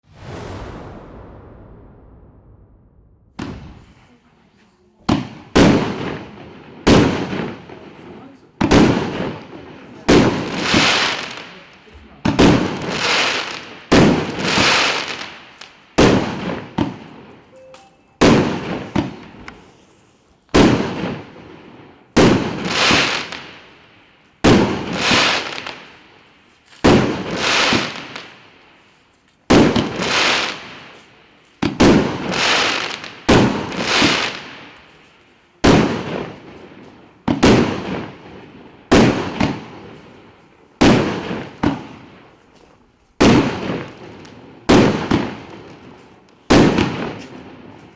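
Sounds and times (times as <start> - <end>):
fireworks bangs: 0.0 - 4.3, 5.0 - 17.4, 18.2 - 23.8, 24.4 - 26.0, 26.8 - 28.4, 29.5 - 42.2, 43.2 - 47.9
fireworks crackle: 0.0 - 4.4, 9.9 - 21.4, 22.1 - 47.9.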